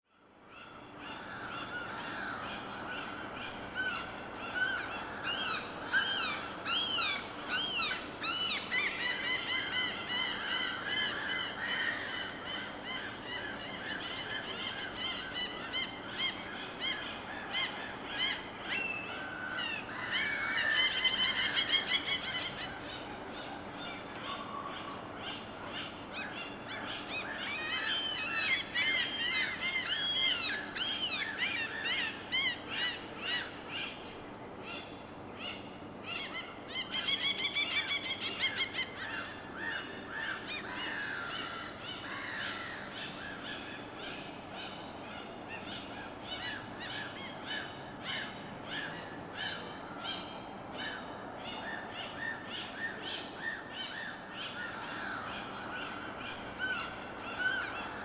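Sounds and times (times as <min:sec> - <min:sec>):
birds calling: 0:01.0 - 0:58.0.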